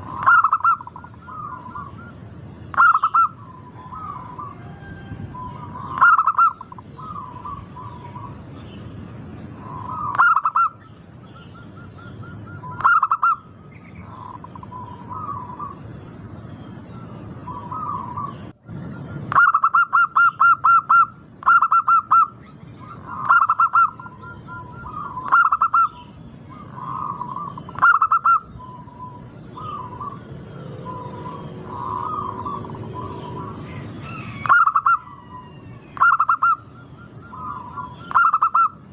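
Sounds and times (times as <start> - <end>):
doves cooing: 0.0 - 8.8, 9.4 - 38.9.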